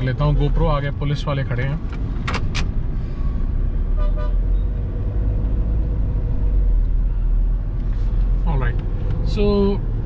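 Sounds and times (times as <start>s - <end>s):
car interior rumble in traffic: 0.0s - 10.0s.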